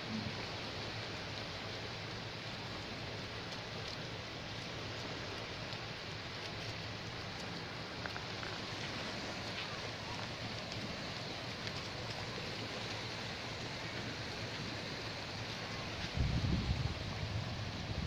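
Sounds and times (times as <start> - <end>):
small waves washing onto sand: 0.0 - 18.0
faint ticks: 1.3 - 16.2.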